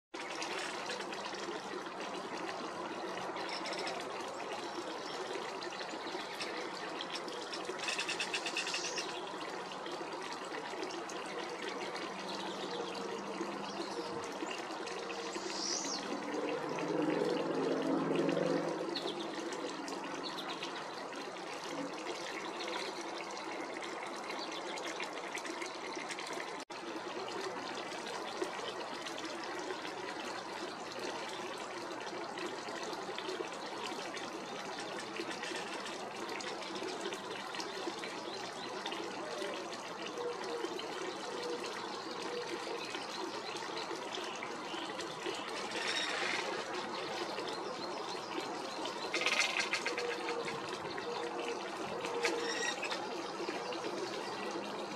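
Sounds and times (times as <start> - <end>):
trickling water: 0.1 - 54.9.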